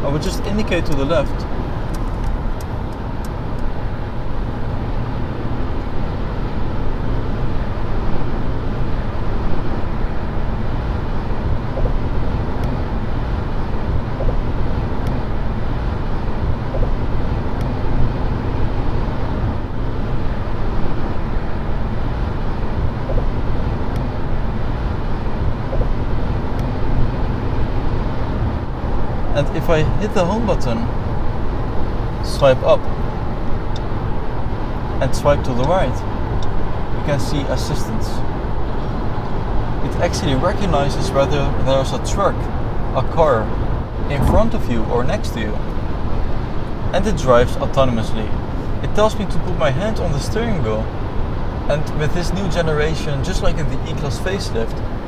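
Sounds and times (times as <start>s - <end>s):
road and wind rumble in car: 0.0s - 55.0s.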